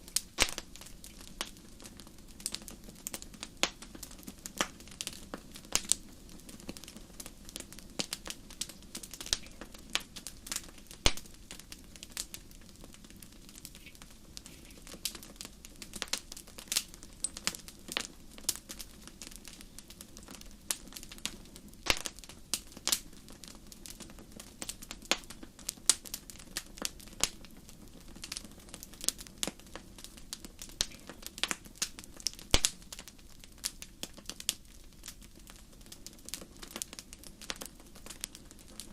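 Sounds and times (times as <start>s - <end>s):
low rumble of burning: 0.0s - 38.9s
wood fire crackling: 0.0s - 38.9s.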